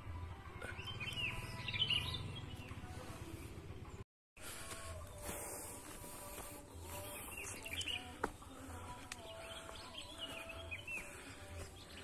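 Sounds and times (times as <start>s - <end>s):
birds chirping: 0.5s - 12.0s.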